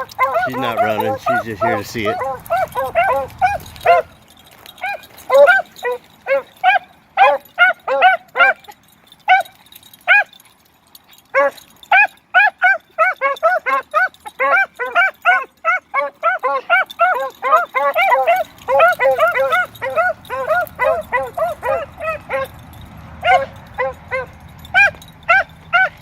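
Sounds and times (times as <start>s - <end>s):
beagles baying: 0.0s - 26.0s.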